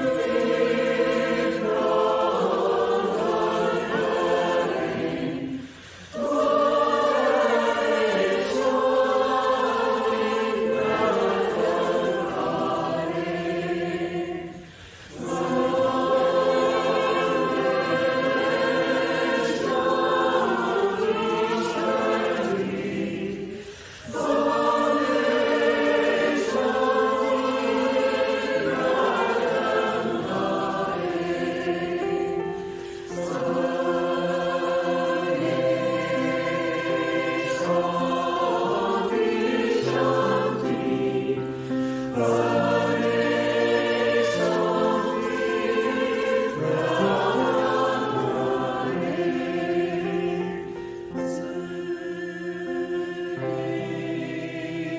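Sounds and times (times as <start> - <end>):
choir singing harmony: 0.0 - 54.9.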